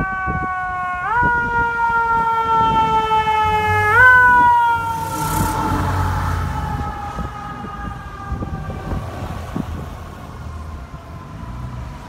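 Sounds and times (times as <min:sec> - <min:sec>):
fire engine siren: 0:00.0 - 0:12.0
truck engine rumble: 0:01.8 - 0:12.0.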